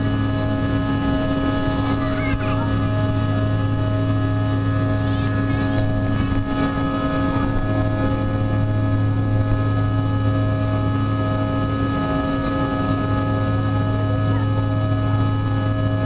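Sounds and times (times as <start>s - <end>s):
high whining tones: 0.0s - 16.0s
low drone: 0.0s - 16.0s.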